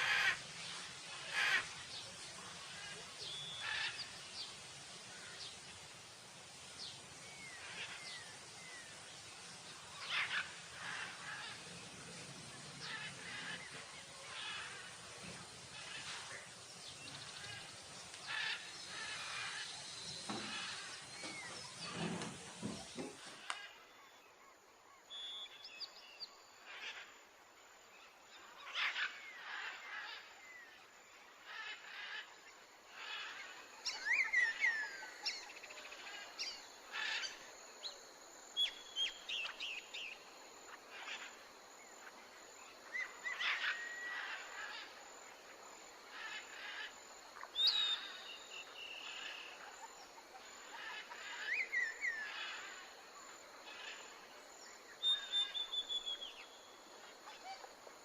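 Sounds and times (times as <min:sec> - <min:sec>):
small birds chirping and singing: 0:00.0 - 0:24.1, 0:33.0 - 0:58.0
nature ambience: 0:00.0 - 0:58.0.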